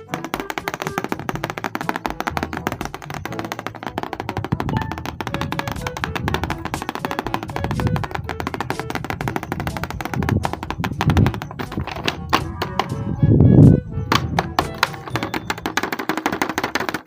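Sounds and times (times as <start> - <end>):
music with fast percussion: 0.0 - 13.0, 14.1 - 17.0.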